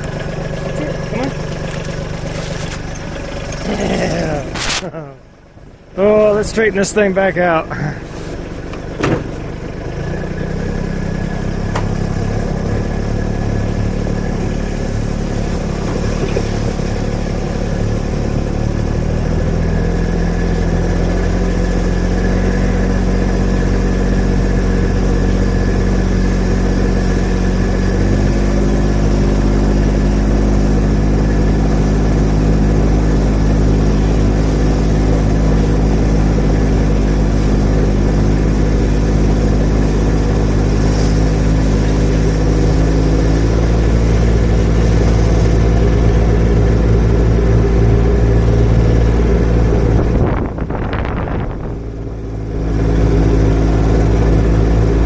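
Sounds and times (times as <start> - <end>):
lawn tractor engine running: 0.0 - 55.0.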